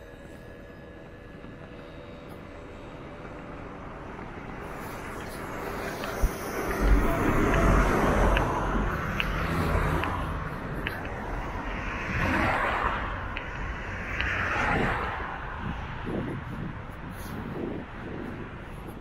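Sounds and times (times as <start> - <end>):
vehicle engine rumbling: 0.0 - 19.0
vehicles passing: 0.0 - 19.0.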